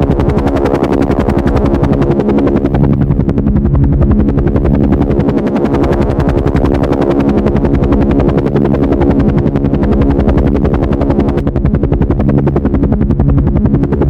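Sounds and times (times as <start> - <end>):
helicopter engine hum: 0.0 - 14.0
helicopter rotor blades chopping: 0.0 - 14.0.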